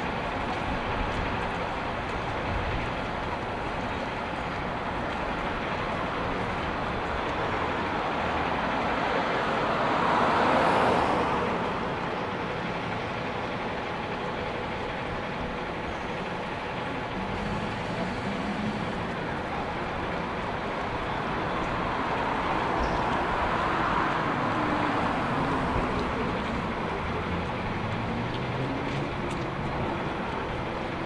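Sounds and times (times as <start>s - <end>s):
hum of passing cars: 0.0s - 31.0s.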